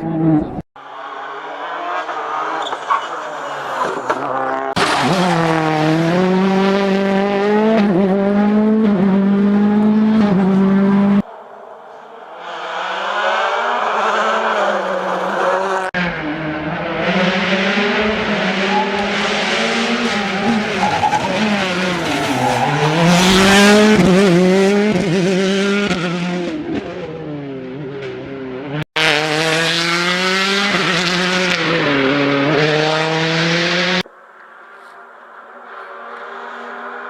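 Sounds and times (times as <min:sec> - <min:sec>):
car engines revving hard: 0:00.0 - 0:34.1, 0:35.6 - 0:37.0.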